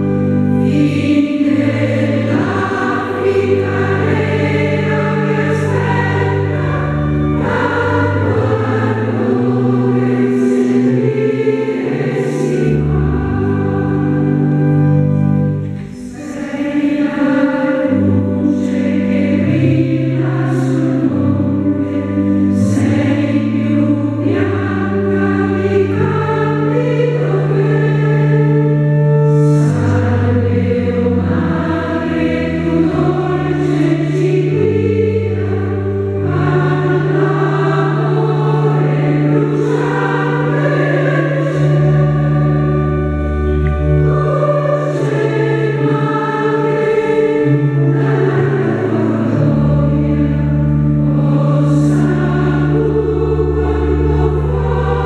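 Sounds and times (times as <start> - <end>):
low held bass accompaniment: 0.0 - 55.0
women's choir singing a hymn: 0.0 - 55.0.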